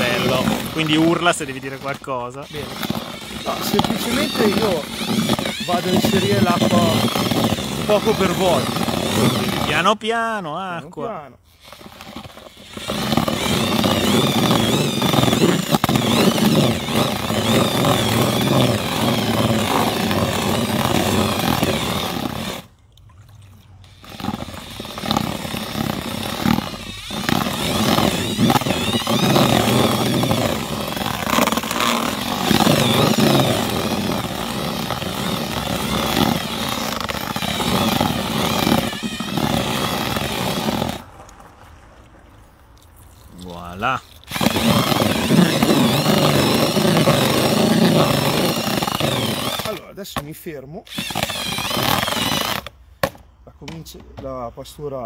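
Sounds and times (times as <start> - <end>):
cordless drill mixer running: 0.0 - 10.0, 11.5 - 22.7, 23.8 - 41.1, 44.2 - 49.8, 50.9 - 52.7.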